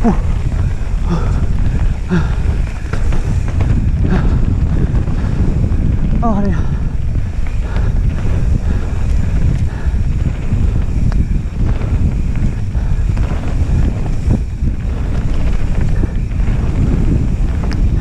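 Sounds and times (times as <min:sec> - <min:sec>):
bike knocks and rattles: 0:00.0 - 0:18.0
tyres rumbling on dirt: 0:00.0 - 0:18.0
wind buffeting microphone: 0:00.0 - 0:18.0.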